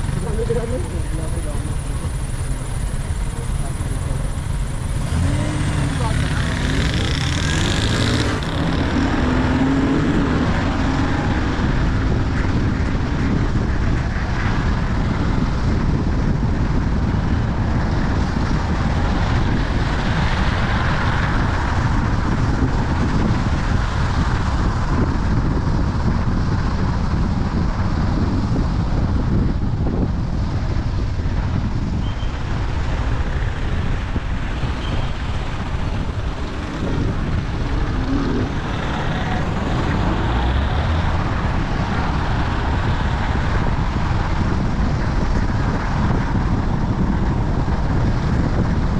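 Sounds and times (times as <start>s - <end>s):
car engine: 0.0s - 48.9s
road noise: 0.0s - 48.9s.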